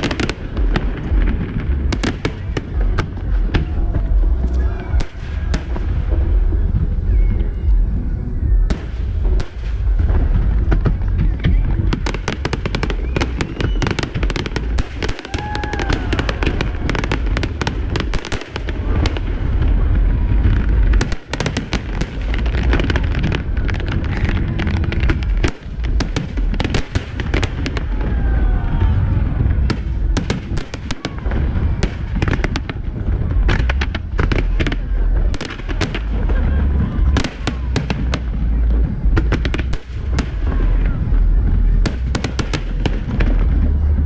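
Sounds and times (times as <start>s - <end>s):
deep booming firework bursts: 0.0s - 44.0s
rapid firework crackling: 0.0s - 44.0s.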